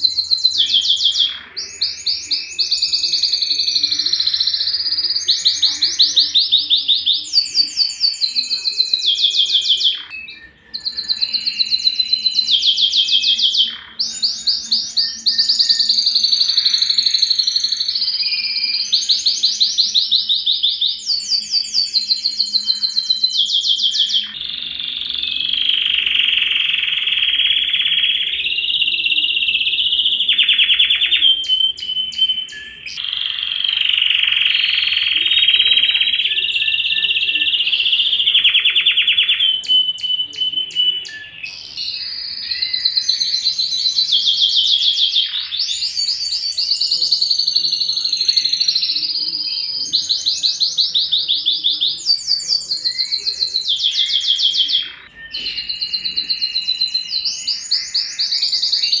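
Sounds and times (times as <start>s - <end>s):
canary trilling: 0.0s - 59.0s.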